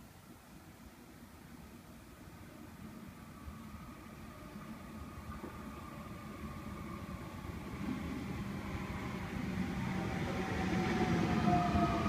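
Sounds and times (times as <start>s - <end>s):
train rumble: 0.6s - 12.0s.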